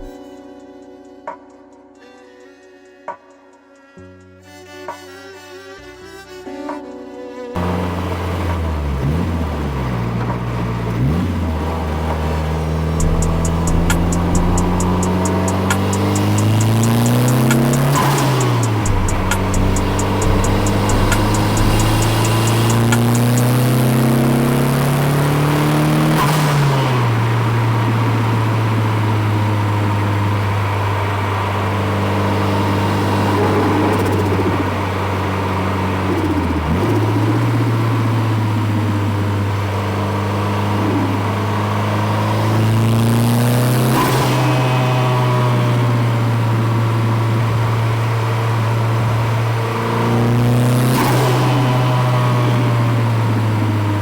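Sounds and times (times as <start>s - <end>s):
car engine running under load: 7.6s - 54.0s.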